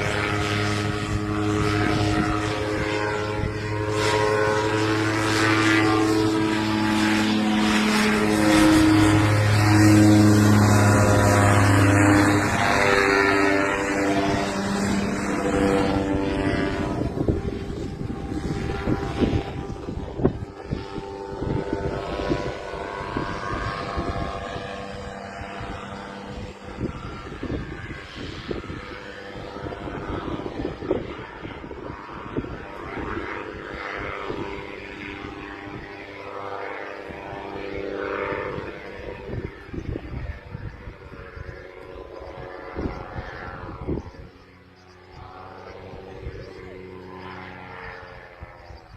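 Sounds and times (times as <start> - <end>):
propeller aircraft engine: 0.0 - 48.9
wind buffeting microphone: 0.0 - 48.9.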